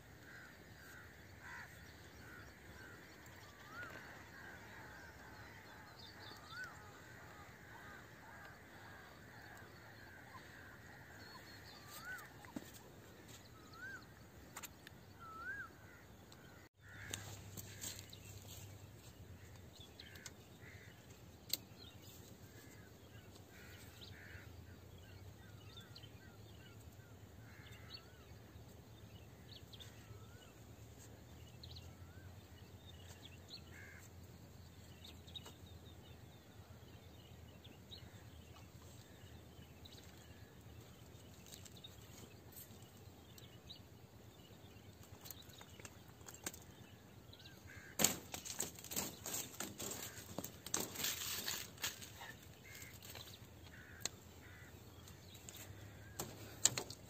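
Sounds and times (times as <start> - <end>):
birds chirping and calling: 0.0 - 34.2, 36.9 - 57.0.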